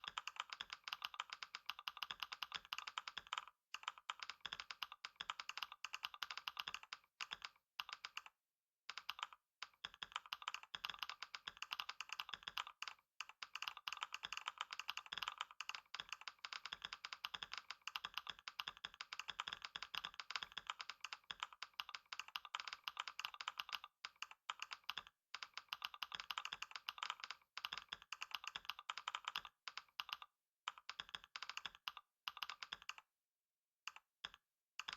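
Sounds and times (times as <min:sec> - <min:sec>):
fast keyboard typing: 0:00.0 - 0:33.1, 0:33.9 - 0:34.9.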